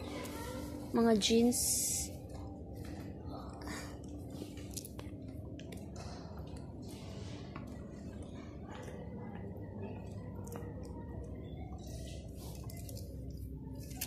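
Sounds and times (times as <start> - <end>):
faint indistinct voices: 0.0 - 14.0
steady low hum: 0.0 - 14.0.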